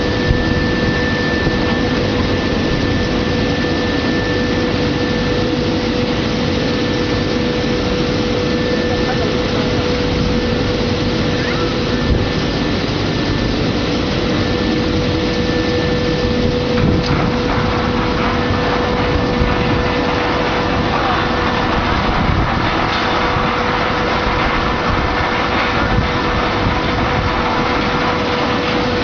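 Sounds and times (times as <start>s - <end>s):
washing machine humming: 0.0s - 29.0s.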